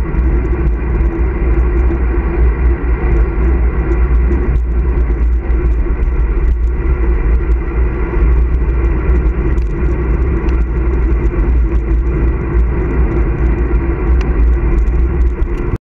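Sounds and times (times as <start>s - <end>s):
tyres rolling on asphalt: 0.0s - 15.8s
wind buffeting microphone: 0.0s - 15.8s.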